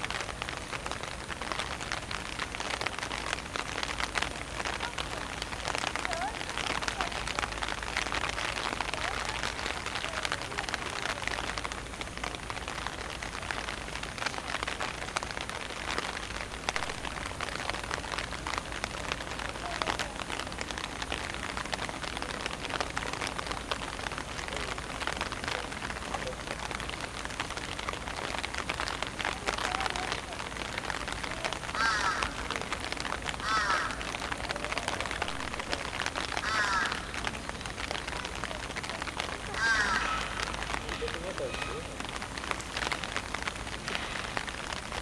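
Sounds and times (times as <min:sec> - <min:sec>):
rain pattering on hard surfaces: 0:00.0 - 0:45.0.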